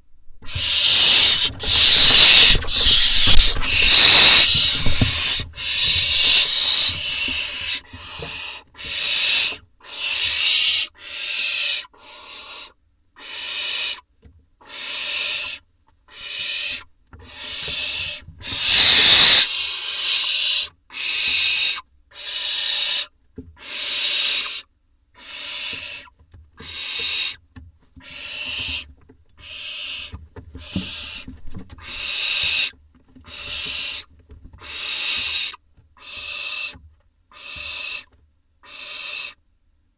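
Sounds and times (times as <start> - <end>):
owl nestlings hissing begging calls: 0.4 - 14.0, 14.6 - 24.6, 25.2 - 27.4, 28.0 - 39.4.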